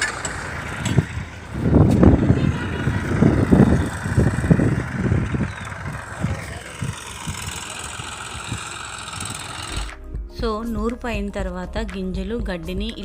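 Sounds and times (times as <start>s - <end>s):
tractor engine chugging: 0.0s - 11.9s.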